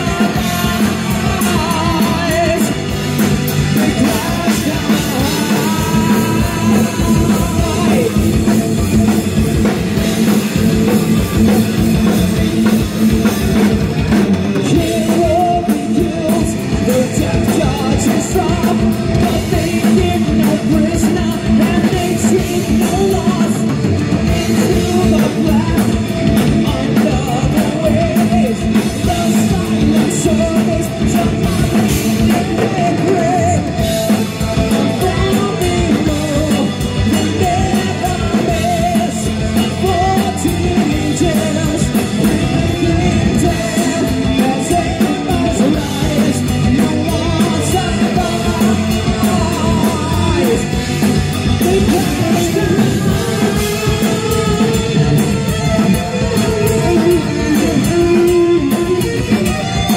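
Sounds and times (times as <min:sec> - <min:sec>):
drum kit: 0:00.0 - 0:59.9
electric guitars: 0:00.0 - 0:59.9
person singing heavy metal vocals: 0:00.0 - 0:59.9.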